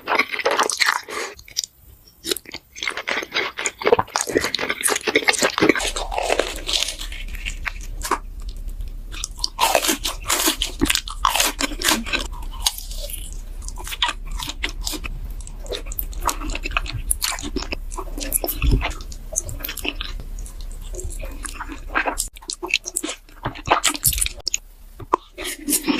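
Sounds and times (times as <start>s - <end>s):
crunchy bites and chewing: 0.0s - 25.9s.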